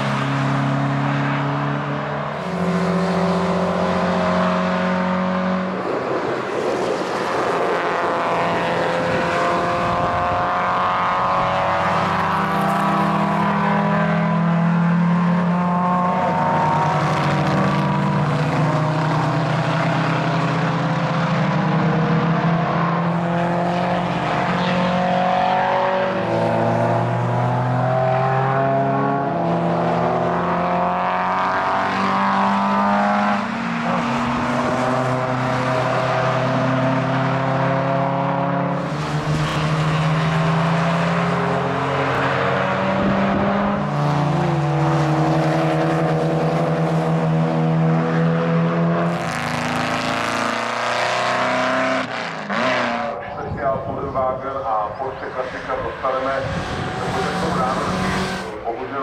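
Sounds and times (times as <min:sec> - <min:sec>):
racing car engines accelerating: 0:00.0 - 0:59.0.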